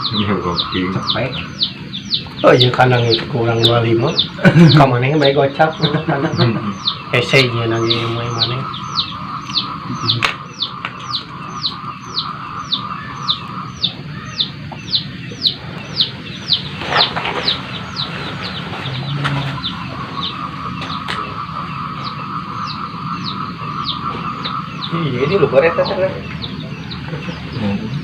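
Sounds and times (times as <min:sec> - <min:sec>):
steady high-pitched hum: 0:00.0 - 0:28.0.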